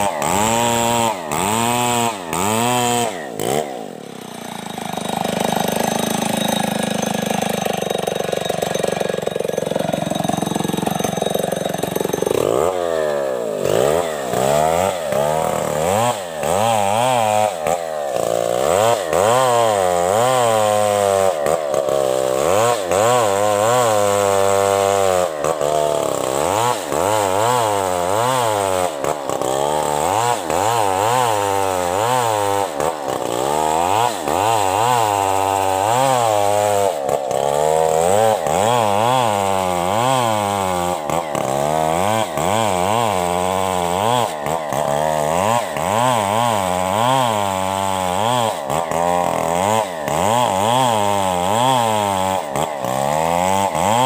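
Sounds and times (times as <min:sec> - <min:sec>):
chainsaw cutting under load: 0:00.0 - 0:54.0.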